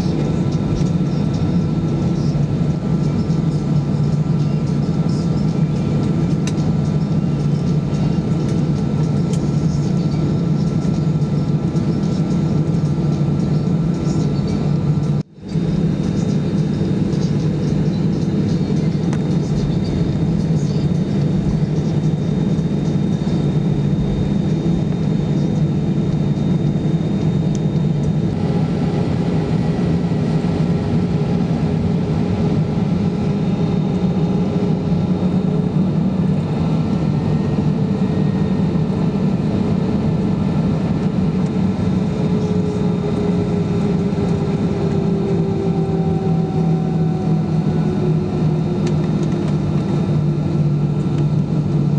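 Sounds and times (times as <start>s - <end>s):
aircraft engines humming: 0.0s - 51.9s.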